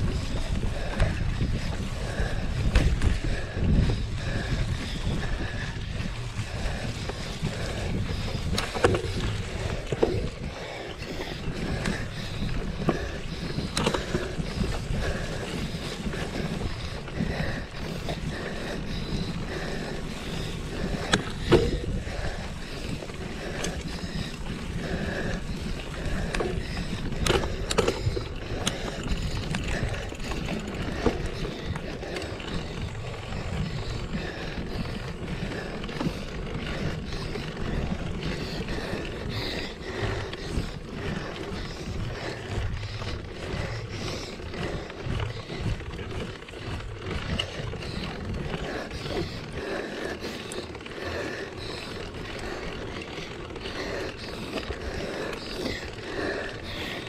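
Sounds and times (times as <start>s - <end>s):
wind on microphone: 0.0s - 50.0s
bike tyres rumbling: 0.0s - 57.0s.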